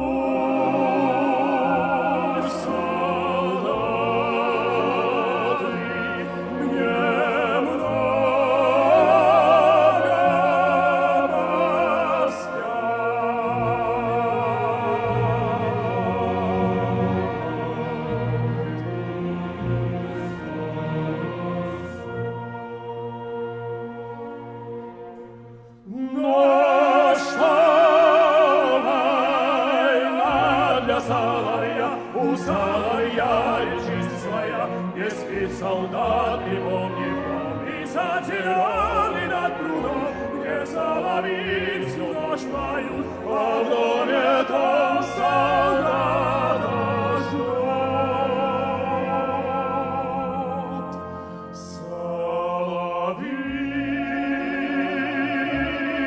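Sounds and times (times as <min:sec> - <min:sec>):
operatic singing: 0:00.0 - 0:56.0
symphony orchestra: 0:00.0 - 0:56.0.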